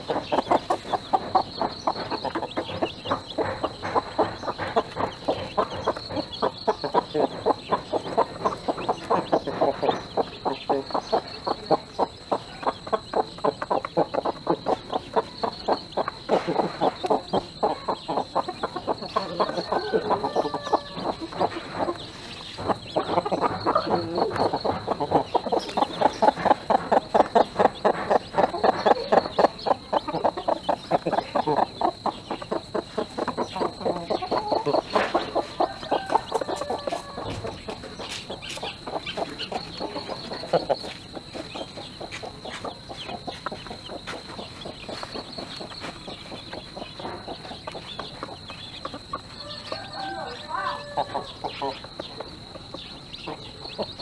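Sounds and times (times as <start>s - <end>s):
hen clucking rapidly: 0.0s - 54.0s.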